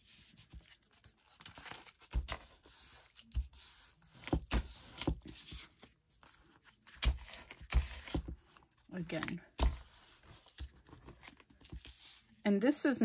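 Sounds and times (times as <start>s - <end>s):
paper rustling and scraping: 0.0s - 12.4s.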